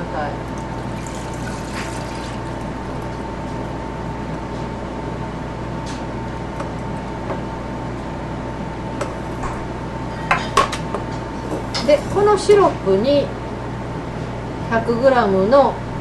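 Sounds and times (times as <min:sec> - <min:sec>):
background hum with high whine: 0:00.0 - 0:16.0.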